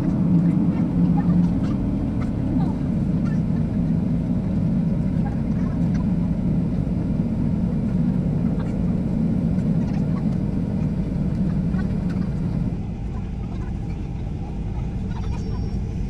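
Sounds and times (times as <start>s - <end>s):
jet engine rumble: 0.0s - 16.0s.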